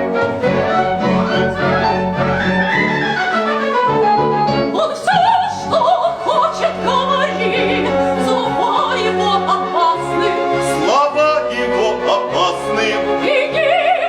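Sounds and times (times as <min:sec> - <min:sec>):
operatic singing with vibrato: 0:00.0 - 0:14.0
orchestral accompaniment: 0:00.0 - 0:14.0.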